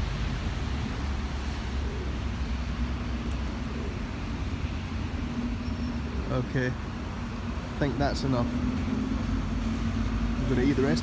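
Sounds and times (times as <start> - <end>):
city road traffic rumble: 0.0 - 11.0.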